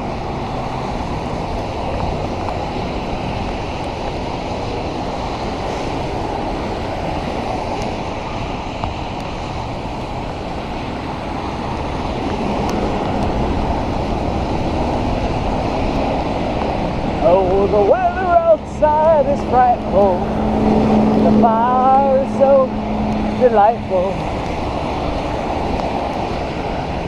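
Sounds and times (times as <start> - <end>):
wash of wet road: 0.0 - 27.0
wind buffeting microphone: 0.0 - 27.0.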